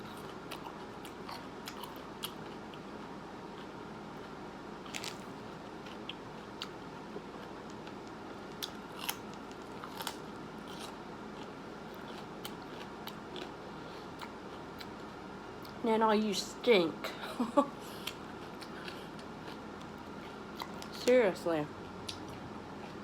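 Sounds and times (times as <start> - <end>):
food being chewed: 0.1 - 2.9, 3.5 - 15.8, 17.9 - 21.2, 21.8 - 23.0.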